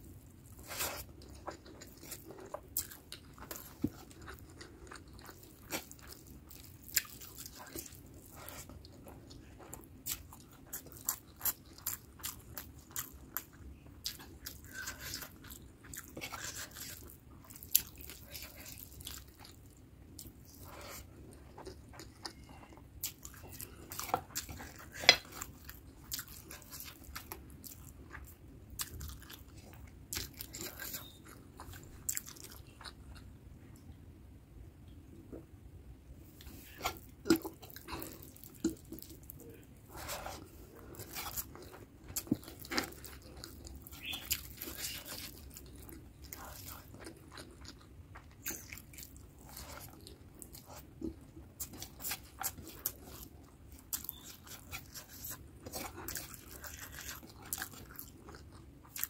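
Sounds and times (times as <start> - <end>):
chewing and mouth sounds: 0.4 - 34.0, 36.3 - 59.0.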